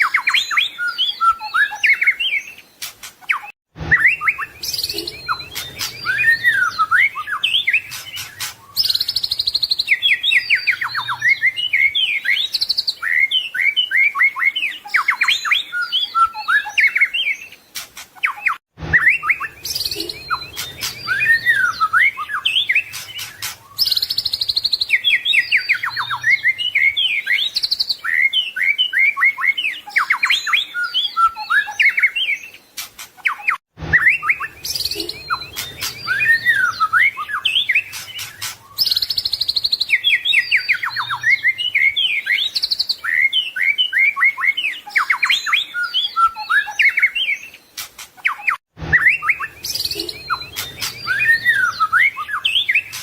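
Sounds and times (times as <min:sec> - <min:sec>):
songbird singing varied whistles: 0:00.0 - 0:17.6, 0:18.2 - 0:47.6, 0:48.2 - 0:53.0.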